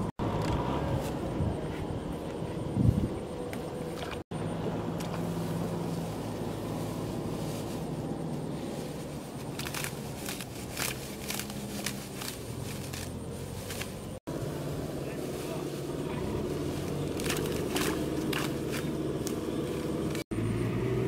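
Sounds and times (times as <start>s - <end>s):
steady low hum: 0.0s - 20.4s
sickle cutting rice stalks: 0.0s - 21.0s.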